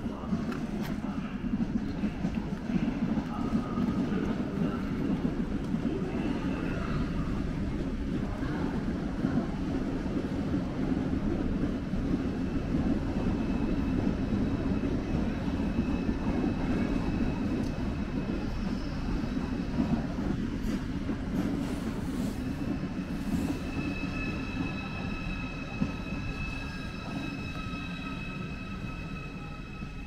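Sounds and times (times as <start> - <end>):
train rumbling on tracks: 0.0 - 30.0.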